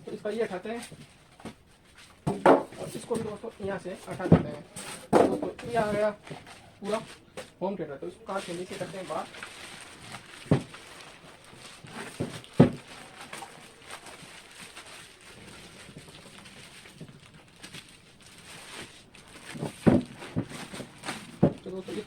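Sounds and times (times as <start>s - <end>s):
handling thumps: 0.0s - 22.0s
plastic bag rustling: 0.0s - 22.0s.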